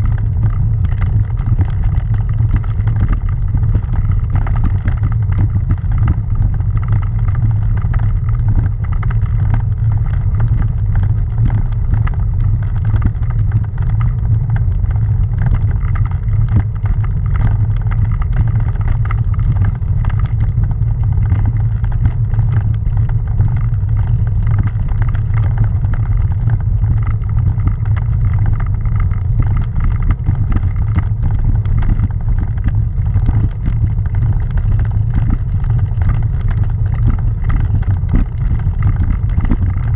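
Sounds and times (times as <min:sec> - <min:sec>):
bicycle rumbling over cobblestones: 0:00.0 - 0:39.9
rattling clicks from bike: 0:00.0 - 0:39.9.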